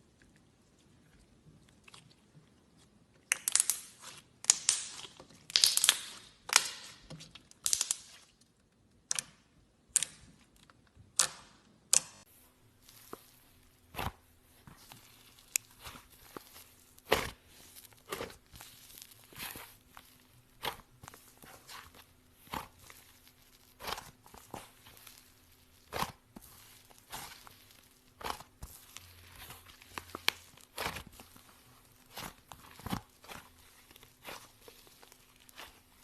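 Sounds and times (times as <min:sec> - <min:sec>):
slime crackling and popping: 0:03.3 - 0:08.3, 0:12.0 - 0:36.0.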